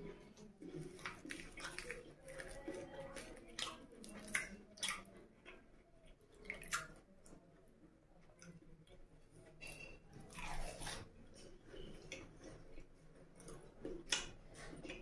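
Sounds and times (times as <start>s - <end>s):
mouth chewing wet smacks: 0.1s - 7.4s, 10.2s - 15.0s.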